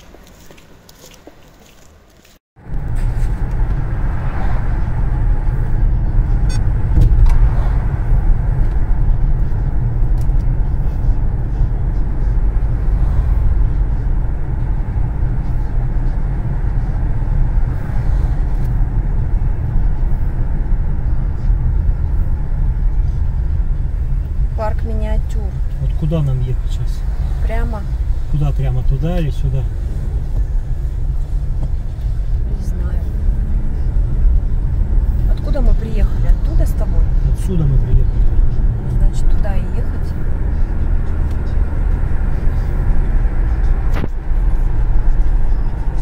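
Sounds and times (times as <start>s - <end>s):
car engine and road rumble: 0.0s - 46.0s.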